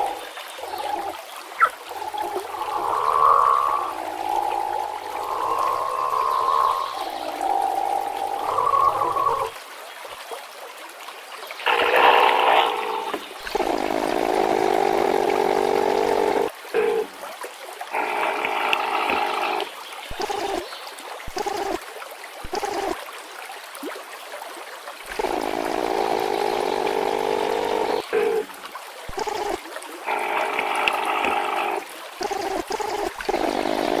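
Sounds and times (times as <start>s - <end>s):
gurgling water-like sound: 0.0s - 10.5s, 11.1s - 24.2s, 25.0s - 34.0s.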